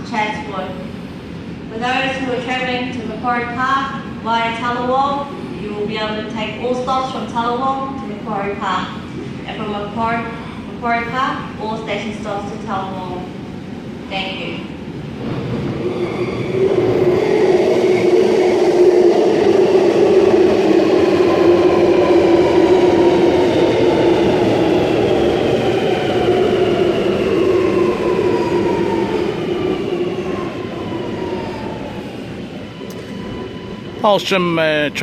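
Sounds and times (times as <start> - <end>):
train pulling in and braking: 0.0 - 35.0.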